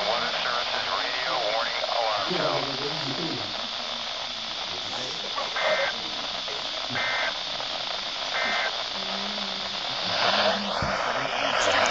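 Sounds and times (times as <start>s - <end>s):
radio hiss: 0.0s - 11.9s
two-tone data bursts: 0.0s - 11.9s.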